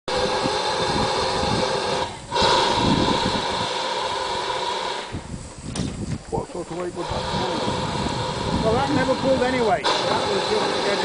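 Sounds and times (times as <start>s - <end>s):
steam locomotive hissing steam: 0.1s - 11.0s.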